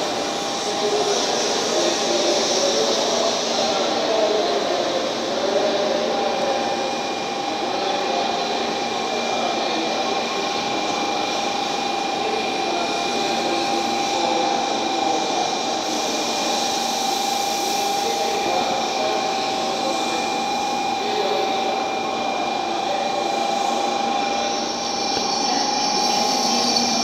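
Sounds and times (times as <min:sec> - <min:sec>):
constant high whine: 0:00.0 - 0:27.0.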